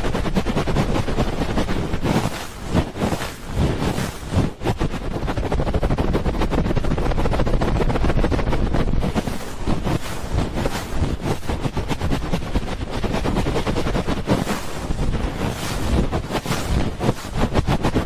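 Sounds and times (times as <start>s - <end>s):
hands rubbing microphone: 0.0s - 18.0s.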